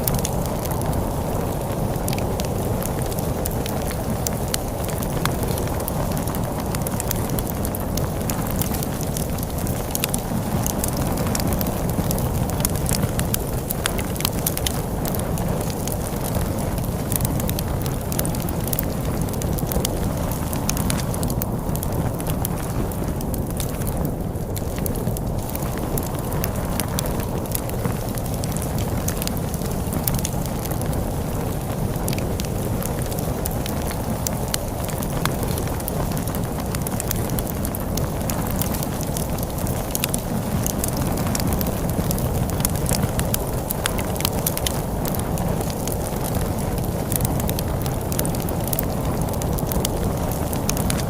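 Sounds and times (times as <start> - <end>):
log fire crackling and popping: 0.0 - 51.0
storm wind rushing: 0.0 - 51.0.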